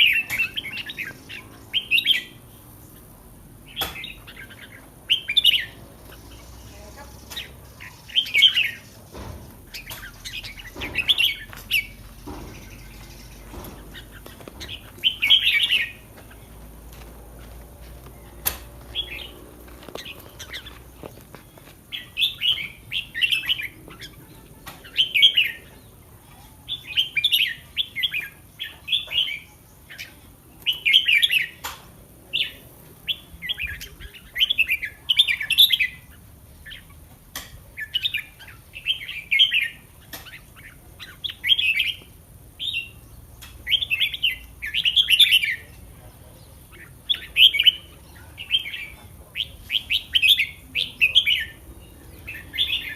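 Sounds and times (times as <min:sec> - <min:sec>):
bird warbling song: 0:00.0 - 0:17.0, 0:17.6 - 0:31.7, 0:37.7 - 0:52.9.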